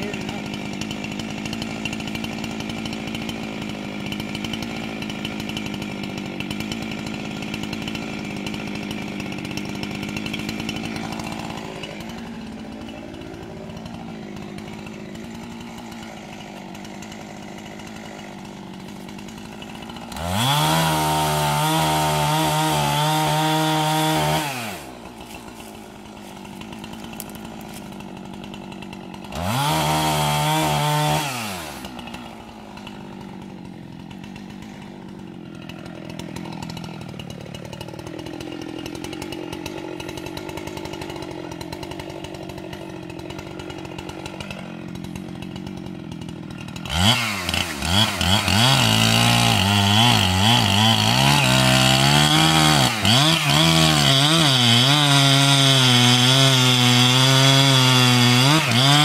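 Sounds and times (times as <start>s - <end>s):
chainsaw cutting into tree trunk: 0.0s - 59.0s
chainsaw idling and revving: 0.0s - 59.0s.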